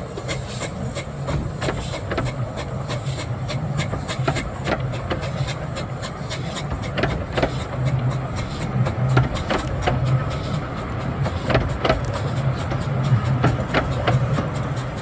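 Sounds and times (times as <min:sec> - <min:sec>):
train coaches rumbling past: 0:00.0 - 0:15.0
wheels clicking on track: 0:00.0 - 0:15.0.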